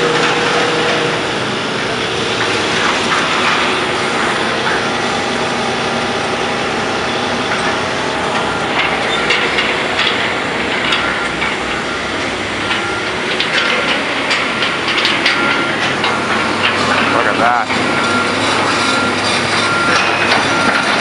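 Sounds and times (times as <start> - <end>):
heavy diesel equipment running: 0.0 - 21.0
metal clanks and knocks: 0.0 - 21.0.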